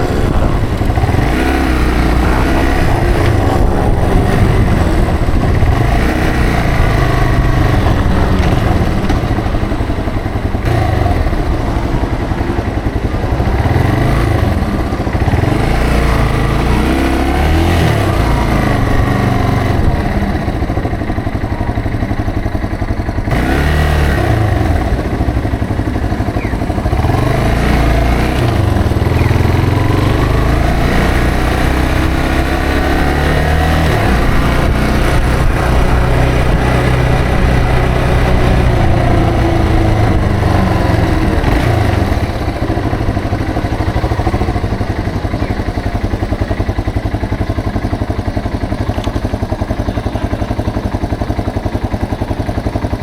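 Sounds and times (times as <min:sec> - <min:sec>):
motorcycle engine accelerating: 0:00.0 - 0:53.0
motorcycle engine idling: 0:00.0 - 0:53.0.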